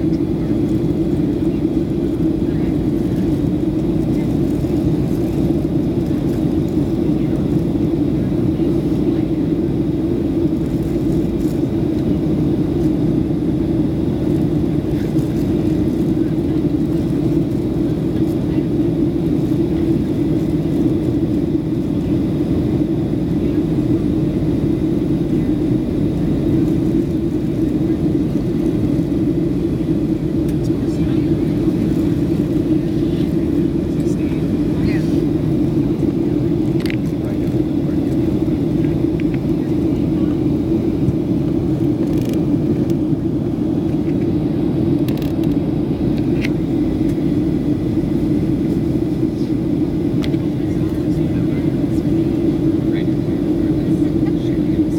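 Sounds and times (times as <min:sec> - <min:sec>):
airplane cabin jet engine drone: 0:00.0 - 0:54.9.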